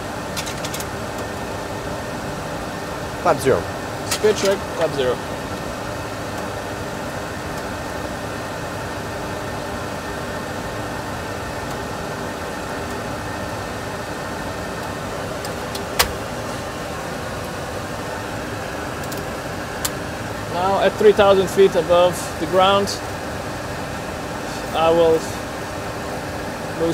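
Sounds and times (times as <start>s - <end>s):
engine and airflow noise: 0.0s - 26.9s.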